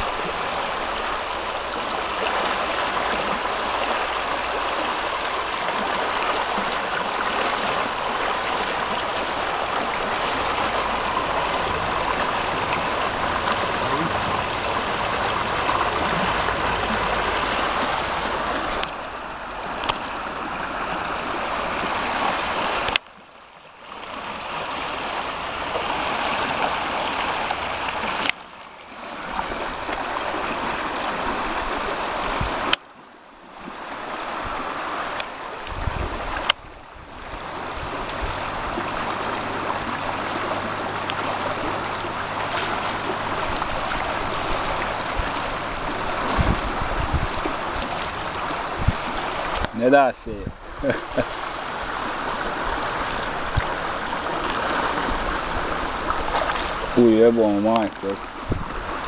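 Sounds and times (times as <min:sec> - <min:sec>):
rushing river water: 0:00.0 - 0:59.0.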